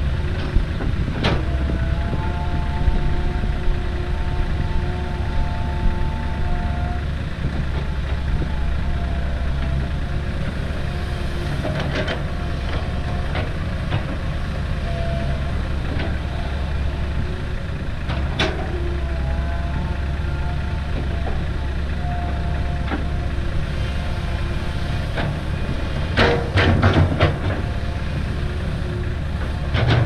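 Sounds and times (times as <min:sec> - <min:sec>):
excavator diesel engine running: 0:00.0 - 0:30.0
hydraulic whine: 0:01.2 - 0:30.0.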